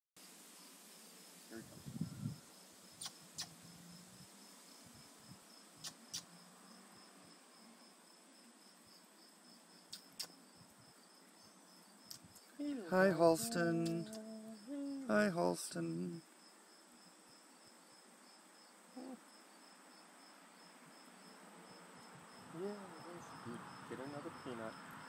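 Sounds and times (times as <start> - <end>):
faint crickets chirping: 0.2 - 25.0.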